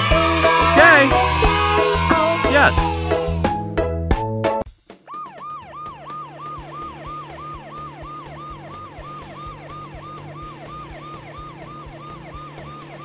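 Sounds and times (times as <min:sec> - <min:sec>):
police siren yelping: 0:00.0 - 0:02.9, 0:05.2 - 0:13.0.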